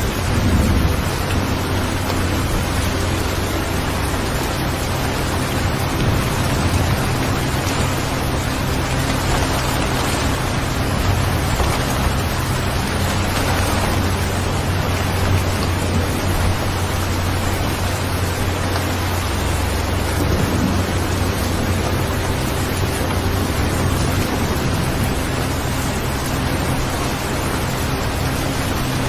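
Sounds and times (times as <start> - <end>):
low rumble: 0.0 - 29.0
steady rain hiss: 0.0 - 29.0.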